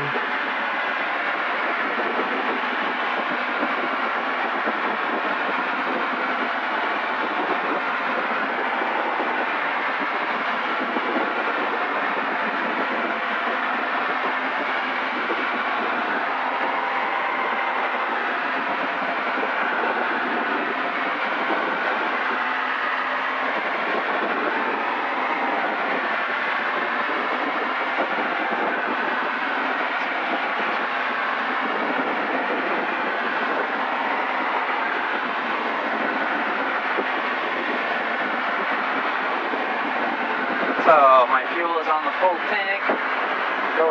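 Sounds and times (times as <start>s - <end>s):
light aircraft cockpit drone: 0.0s - 43.9s.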